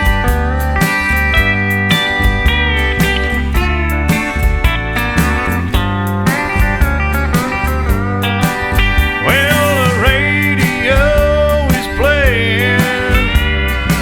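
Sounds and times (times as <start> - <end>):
country music with guitar: 0.0 - 14.0.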